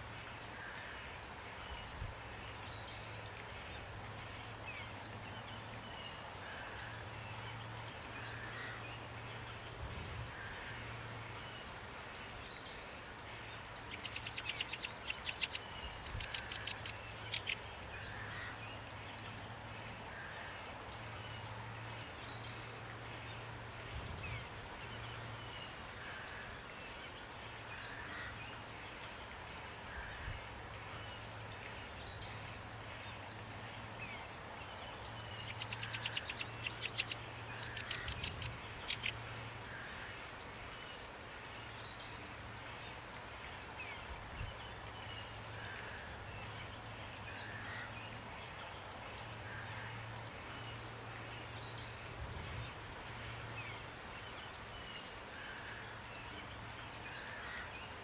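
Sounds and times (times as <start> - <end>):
songbirds chirping: 0.0 - 58.0
steady rain: 0.0 - 58.0.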